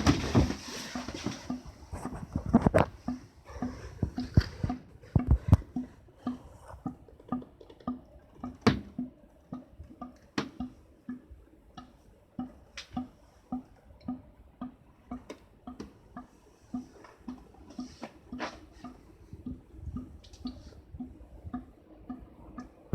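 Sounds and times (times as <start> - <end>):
hollow dripping in pipe: 0.9 - 22.9.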